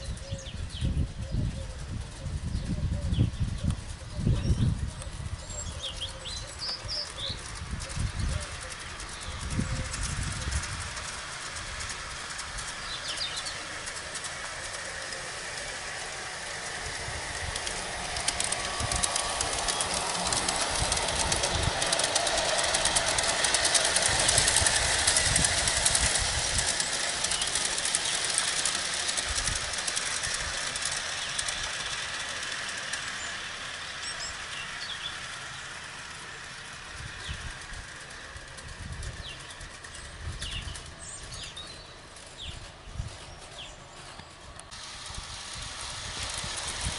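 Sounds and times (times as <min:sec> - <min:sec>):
model train wheels rolling on rails: 0:00.0 - 0:46.9.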